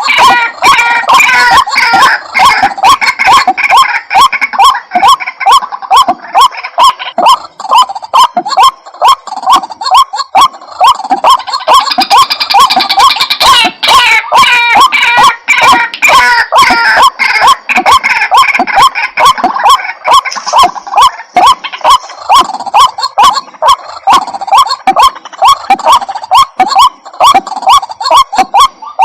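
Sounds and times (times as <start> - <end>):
waterhen calling hooked notes: 0.0 - 29.0.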